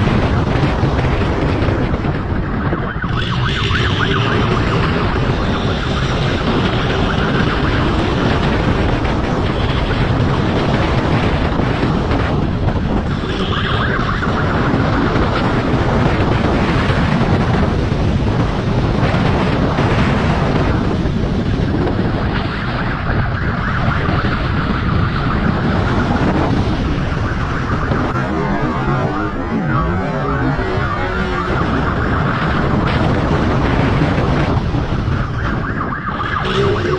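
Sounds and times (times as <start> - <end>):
vehicle noise: 0.0 - 36.9
wind buffeting microphone: 0.0 - 36.9.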